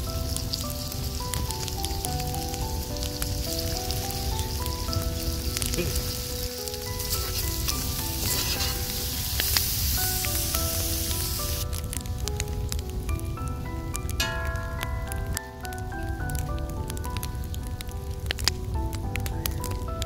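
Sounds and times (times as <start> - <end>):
food sizzling in oil: 0.0 - 16.3
soft melody of held notes: 0.0 - 20.0.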